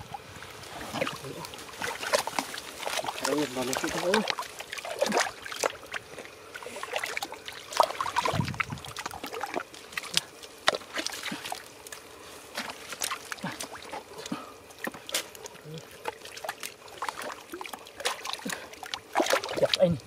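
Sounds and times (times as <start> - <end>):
wet squelches of mud: 0.0 - 20.0
splashes in muddy water: 0.4 - 20.0.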